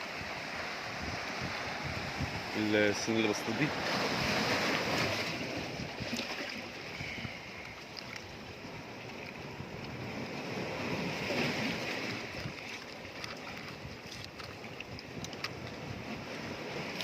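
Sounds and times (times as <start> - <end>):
sea waves washing against rocks: 0.0 - 17.0
wind on microphone: 0.0 - 17.0.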